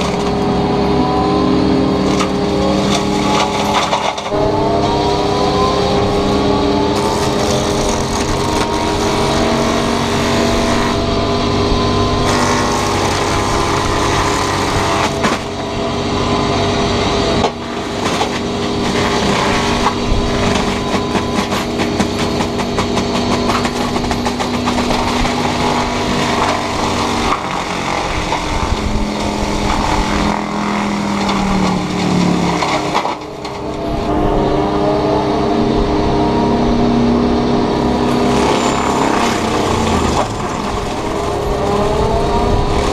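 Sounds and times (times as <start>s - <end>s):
excavator mulching brush: 0.0s - 42.9s.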